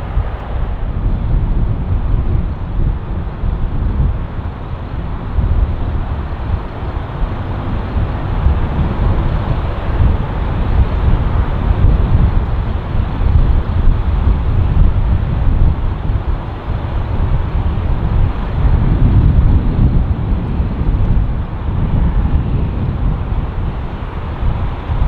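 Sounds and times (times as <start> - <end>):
jet aircraft noise: 0.0 - 25.0
wind buffeting microphone: 0.0 - 25.0.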